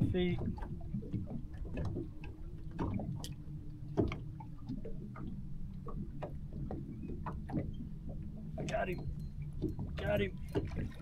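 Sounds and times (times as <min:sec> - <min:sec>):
steady low hum: 0:00.0 - 0:11.0
light ticks and knocks: 0:00.3 - 0:11.0.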